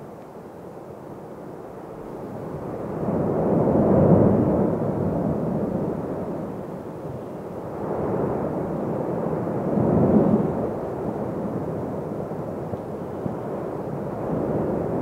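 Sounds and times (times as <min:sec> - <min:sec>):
volcano rumbling: 0:02.0 - 0:15.0.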